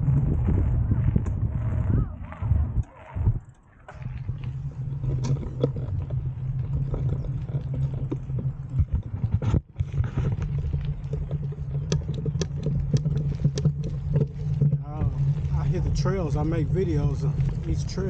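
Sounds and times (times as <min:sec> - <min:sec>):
bike riding over rough trail: 0:00.0 - 0:18.0.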